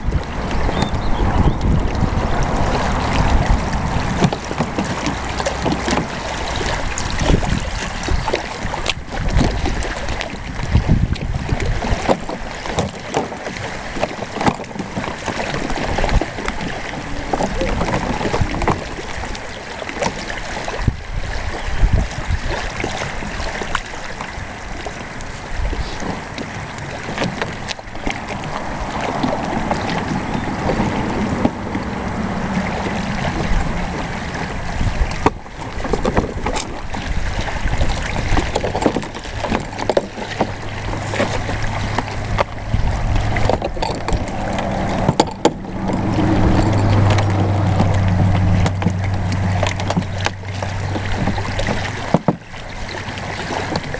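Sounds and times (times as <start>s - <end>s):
wind rumbling on microphone: 0.0s - 53.9s.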